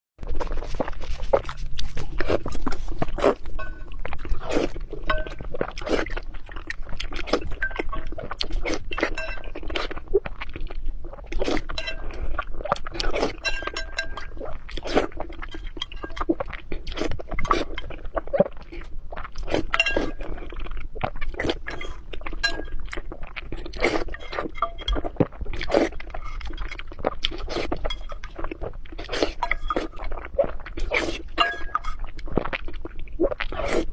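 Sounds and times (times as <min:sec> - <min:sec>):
pet crunching and chewing: 0:00.2 - 0:33.9.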